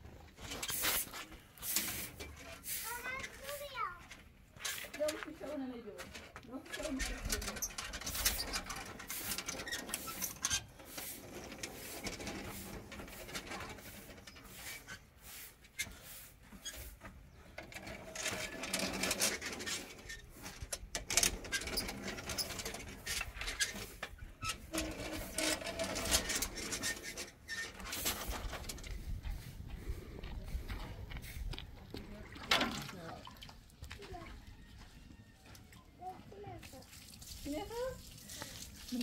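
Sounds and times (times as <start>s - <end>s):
stone roller grinding over gravel: 0.0s - 33.1s.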